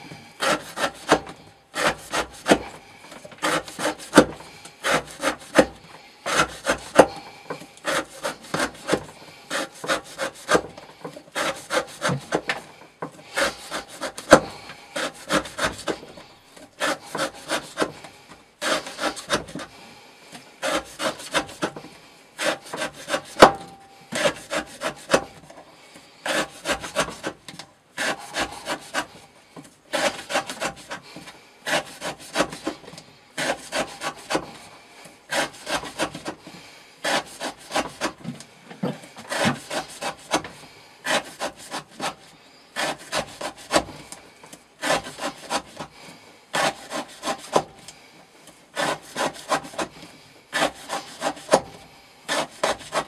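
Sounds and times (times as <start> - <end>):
knife sawing through rope: 0.0 - 19.8, 20.4 - 25.5, 26.2 - 47.9, 48.7 - 53.0.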